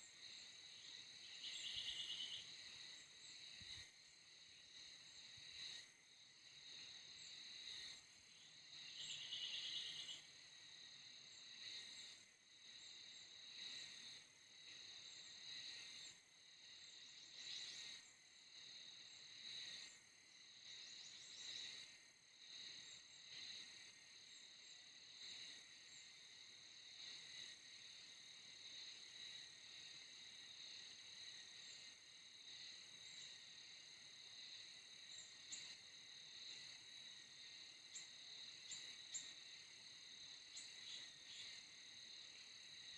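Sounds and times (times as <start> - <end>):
insect buzz: 0.0 - 42.9
insects chirring: 0.0 - 42.9.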